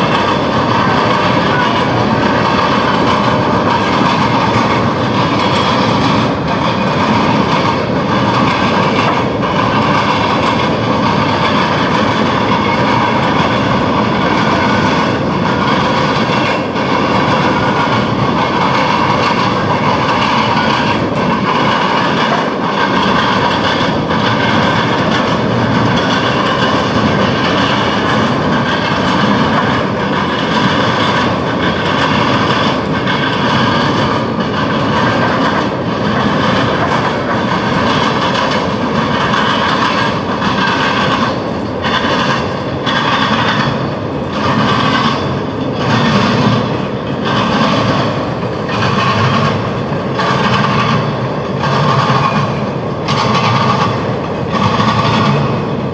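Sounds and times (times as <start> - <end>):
train wheels clacking over track joints: 0.0 - 55.9.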